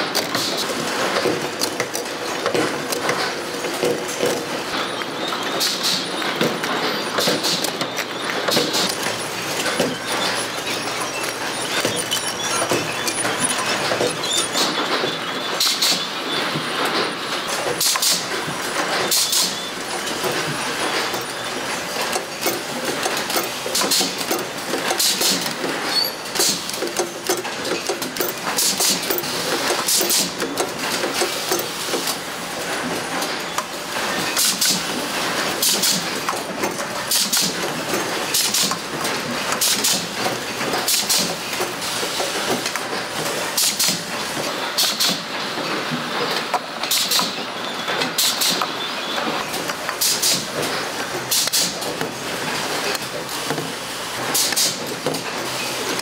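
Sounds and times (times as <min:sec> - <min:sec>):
machinery clattering: 0:00.0 - 0:45.6.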